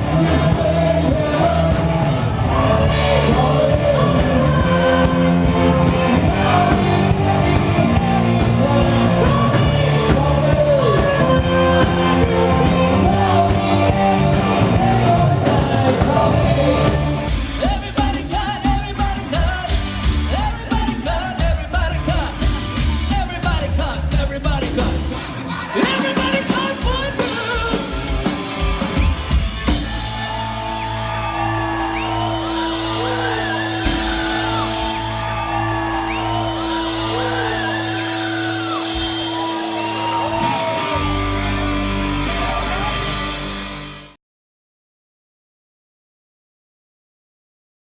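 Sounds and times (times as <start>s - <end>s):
person singing: 0.0s - 28.8s, 31.6s - 43.4s
rock band playing: 0.0s - 44.2s.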